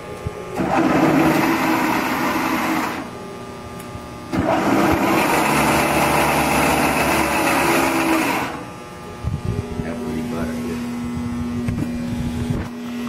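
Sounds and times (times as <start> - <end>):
milling machine motor running: 0.0 - 13.0.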